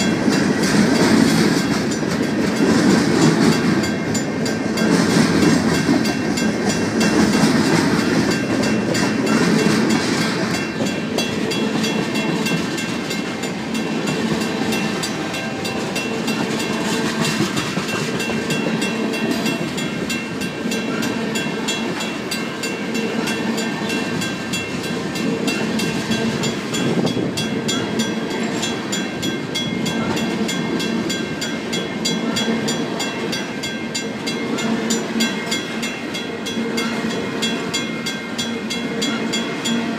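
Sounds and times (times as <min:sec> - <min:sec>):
crossing bell ringing: 0:00.0 - 0:39.9
steel wheels clattering on rails: 0:00.0 - 0:39.9.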